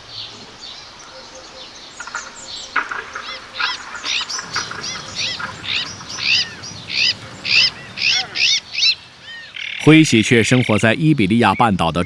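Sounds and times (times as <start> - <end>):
magpies calling: 0.0 - 11.9.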